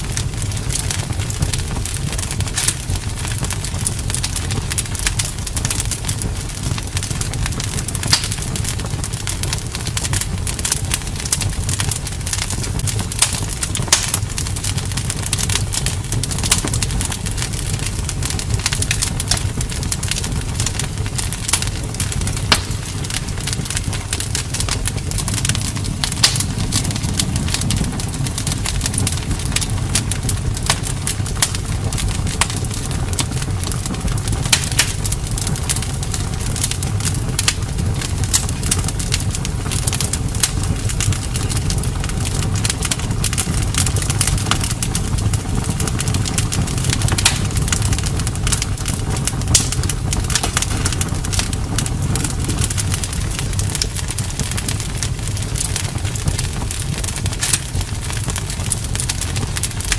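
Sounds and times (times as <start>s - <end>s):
bonfire crackling and popping: 0.0s - 59.9s
low rumble of burning fire: 0.0s - 59.9s.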